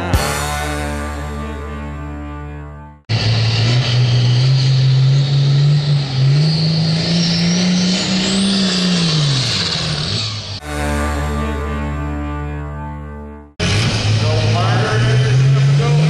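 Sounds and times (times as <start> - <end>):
high engine whine: 3.1 - 16.0
tractor engine droning: 3.1 - 16.0.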